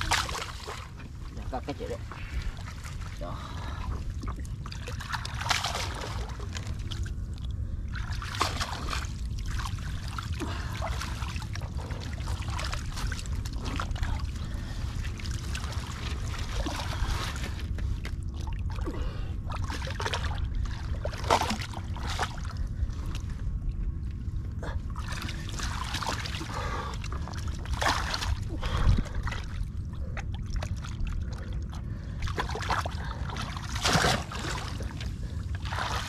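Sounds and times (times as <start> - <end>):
water splashing and trickling: 0.0 - 23.6, 24.6 - 36.0
low rumble: 0.0 - 36.0.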